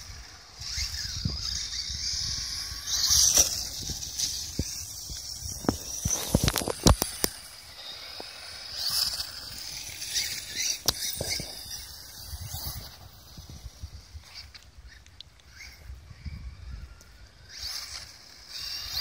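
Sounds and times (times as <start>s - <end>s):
toy truck motor whining: 0.0s - 19.0s.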